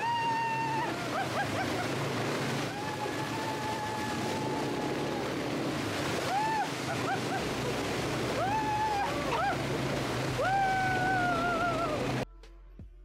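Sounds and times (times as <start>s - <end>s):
water splashing around wheels: 0.0s - 12.2s.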